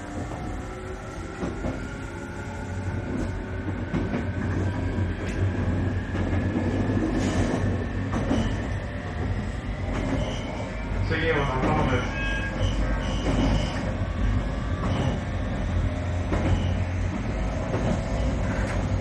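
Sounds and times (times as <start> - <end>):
electric train rumble: 0.0 - 19.0
rising train whine: 0.0 - 19.0
wheels clacking on rails: 3.0 - 19.0.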